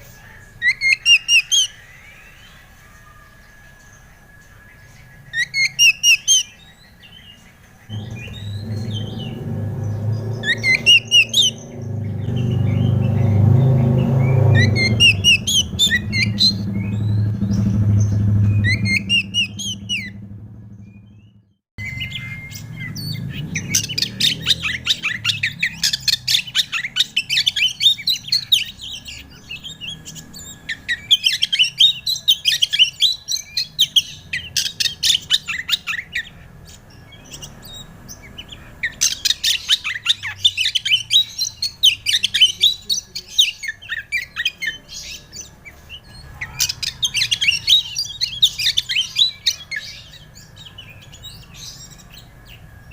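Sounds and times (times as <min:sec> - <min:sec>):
bird singing chirps and whistles: 0:00.0 - 0:52.9.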